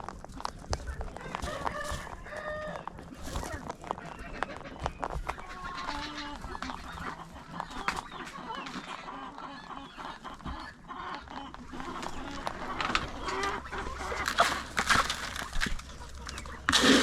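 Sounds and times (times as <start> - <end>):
poultry calling: 0.9 - 17.0.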